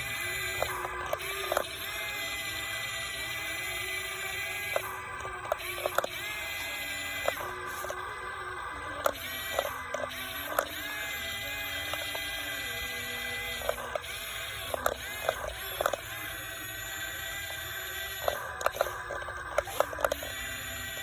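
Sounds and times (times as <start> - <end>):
sharp clicks and knocks: 0.0 - 21.0
small electric motors whining: 0.0 - 21.0.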